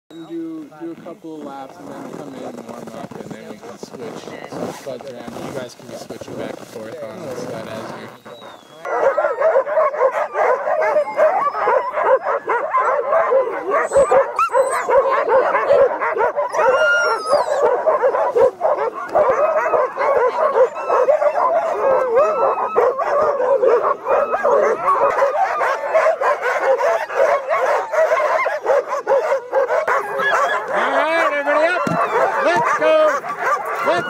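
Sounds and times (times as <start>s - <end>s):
sled dogs barking and yipping: 0.2s - 34.0s.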